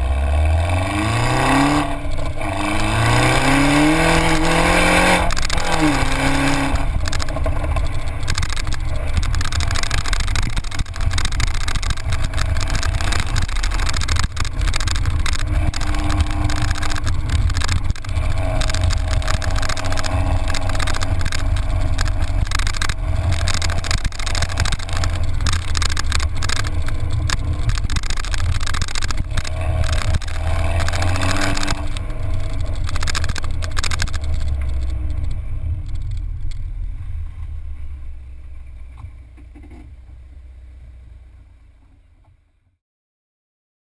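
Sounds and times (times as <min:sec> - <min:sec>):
car exhaust drone: 0:00.0 - 0:42.8.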